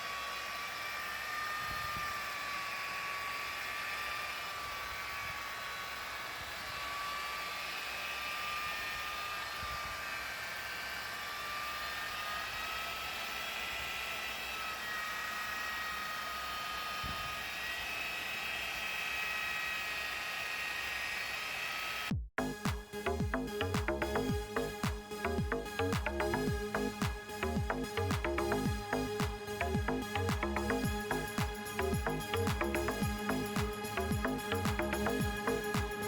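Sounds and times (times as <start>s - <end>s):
machine whine: 0.0s - 36.0s.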